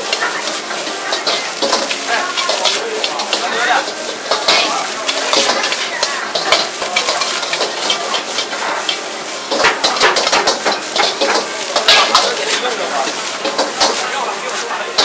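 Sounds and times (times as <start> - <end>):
ladle scraping against wok: 0.0 - 15.0
rice sizzling in a wok: 0.0 - 15.0.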